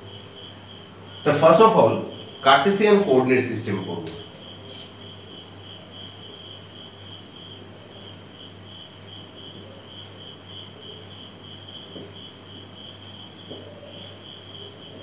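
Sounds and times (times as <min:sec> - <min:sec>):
cricket chirping: 0:00.0 - 0:15.0
low steady hum: 0:00.0 - 0:15.0.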